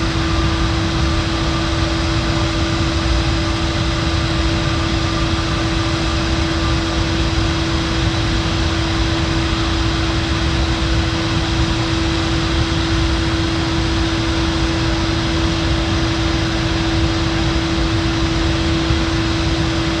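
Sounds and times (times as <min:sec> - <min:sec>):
held hum tone: 0:00.0 - 0:20.0
industrial machinery drone: 0:00.0 - 0:20.0.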